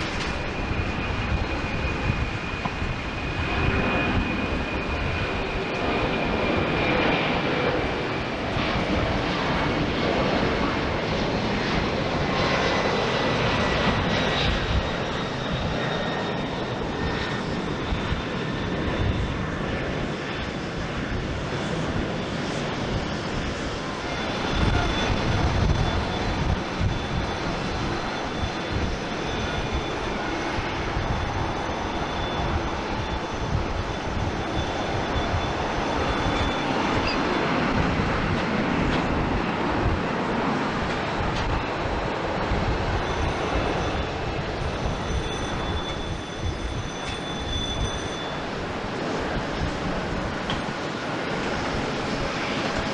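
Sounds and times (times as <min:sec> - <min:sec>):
jet engines running: 0:00.0 - 0:52.9
thin high engine whine: 0:00.0 - 0:52.9.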